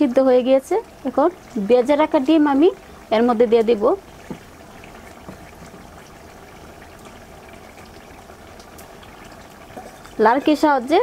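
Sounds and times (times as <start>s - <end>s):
curry bubbling in a wok: 0.0s - 11.0s.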